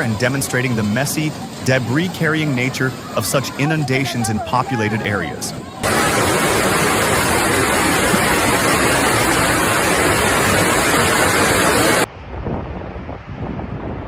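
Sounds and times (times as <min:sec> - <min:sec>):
floodwater rushing: 0:00.0 - 0:12.1.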